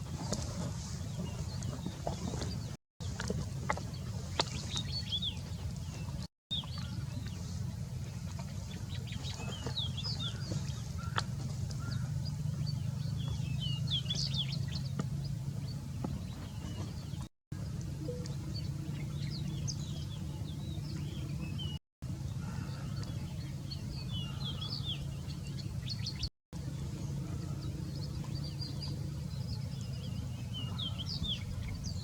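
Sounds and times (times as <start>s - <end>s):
steady low rumble: 0.0s - 32.0s
small birds chirping: 0.1s - 32.0s.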